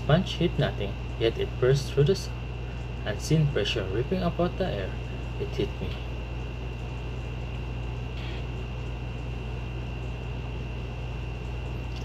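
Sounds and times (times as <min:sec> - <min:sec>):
high whine: 0:00.0 - 0:12.0
low hum: 0:00.0 - 0:12.0.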